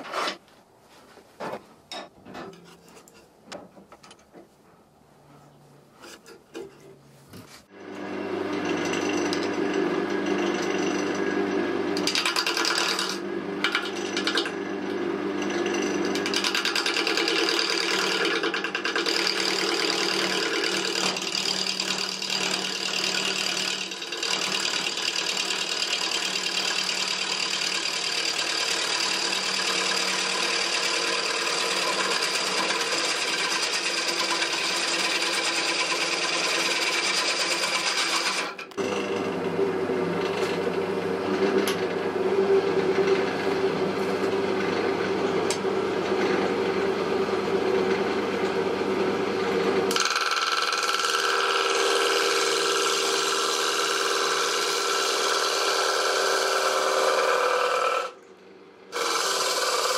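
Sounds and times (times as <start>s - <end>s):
turning tool cutting wood: 7.7s - 58.2s, 58.9s - 59.9s
wood lathe motor hum: 7.7s - 58.2s, 58.9s - 59.9s.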